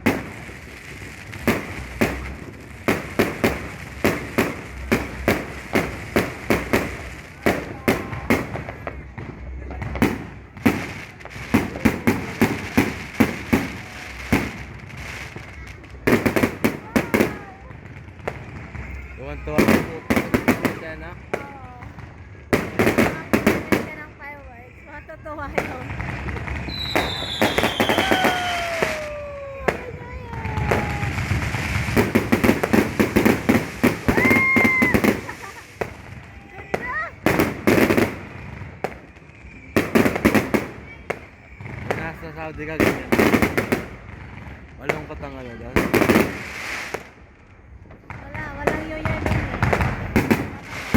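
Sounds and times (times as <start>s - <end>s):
fireworks bangs: 0.0s - 50.9s
fireworks crackle: 0.0s - 50.9s.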